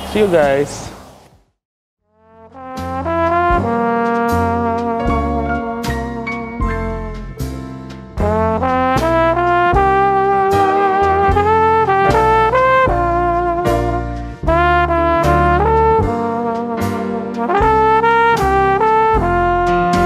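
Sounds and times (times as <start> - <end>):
brass-led music with drum beat: 2.1 - 20.0.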